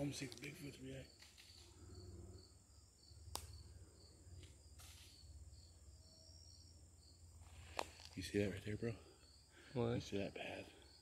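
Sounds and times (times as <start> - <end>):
faint insects chirping: 0.0 - 11.0.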